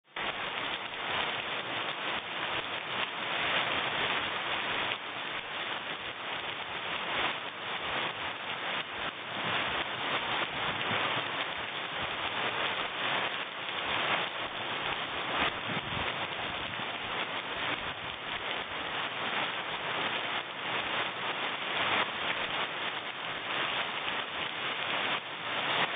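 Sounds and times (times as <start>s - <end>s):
rain pattering on garden: 0.0s - 25.9s.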